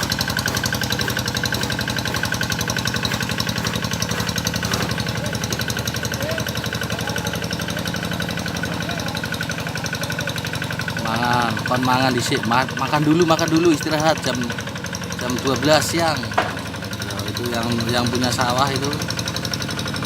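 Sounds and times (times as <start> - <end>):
tractor engine chugging: 0.0 - 20.0.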